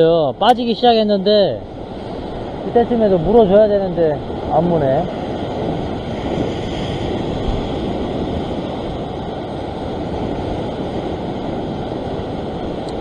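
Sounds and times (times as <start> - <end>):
ocean surf over rocks: 0.0 - 13.0
wind on microphone: 0.0 - 13.0.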